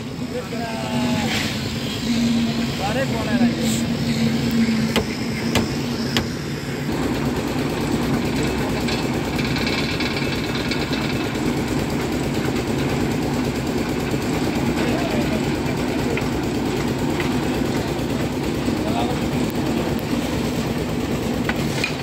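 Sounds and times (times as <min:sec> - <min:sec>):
machine engine running: 0:00.0 - 0:22.0.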